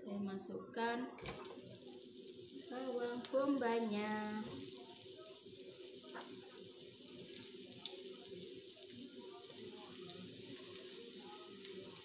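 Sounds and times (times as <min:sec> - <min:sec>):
onions sizzling in hot oil: 0:01.2 - 0:12.0.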